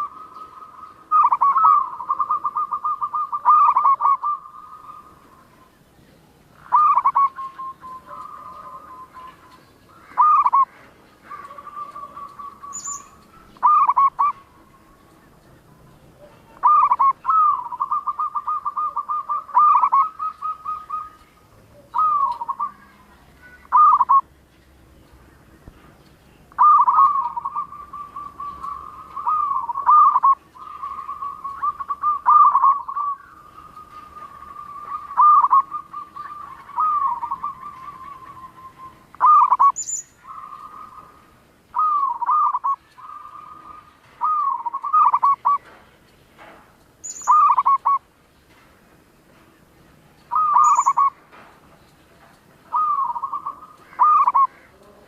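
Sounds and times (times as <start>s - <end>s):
dove cooing: 0.0s - 5.8s, 6.5s - 24.3s, 26.5s - 45.8s, 47.2s - 48.1s, 50.3s - 51.3s, 52.6s - 55.0s
high-pitched chirp: 0.0s - 5.8s, 6.5s - 24.3s, 26.4s - 45.7s, 47.0s - 48.1s, 50.2s - 51.2s, 52.7s - 54.6s.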